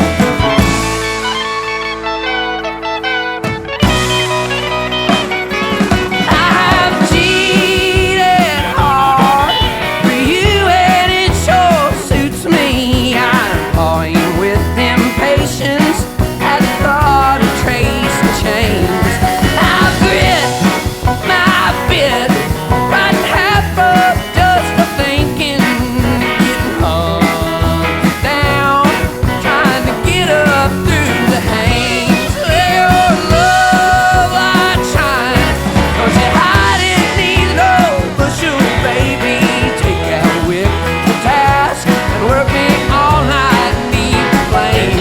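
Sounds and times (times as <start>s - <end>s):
country rock song: 0.0s - 45.0s.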